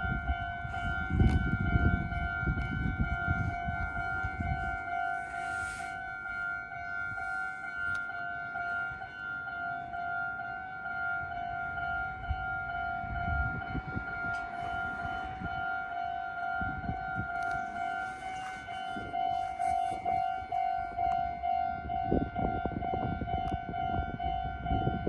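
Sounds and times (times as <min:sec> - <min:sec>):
level crossing warning bell: 0:00.0 - 0:25.0
train rumbling over rails: 0:00.0 - 0:25.0.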